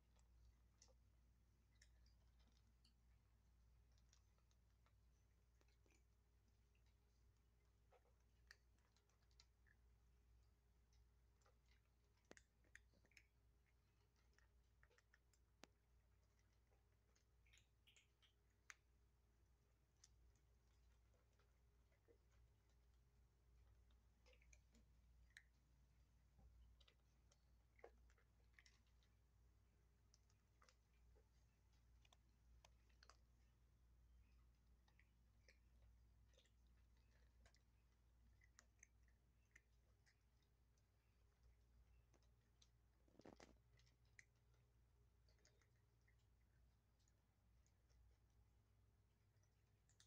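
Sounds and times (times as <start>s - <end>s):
kittens crunching dry kibble: 0.0s - 50.0s.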